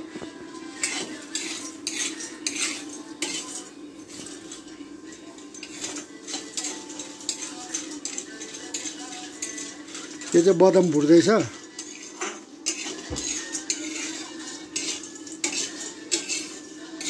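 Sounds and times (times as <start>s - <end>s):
ladle scraping metal pan: 0.7s - 17.0s
metal plates and lids clattering: 0.8s - 17.0s.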